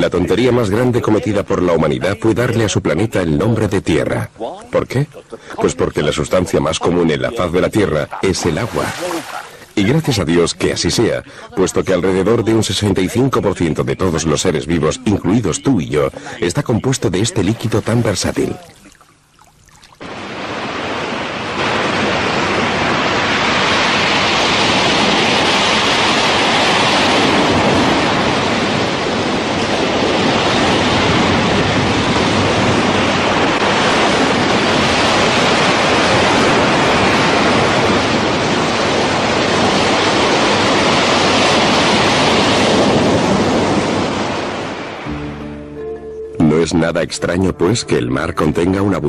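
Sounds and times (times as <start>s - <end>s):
waves breaking: 0.0s - 45.4s.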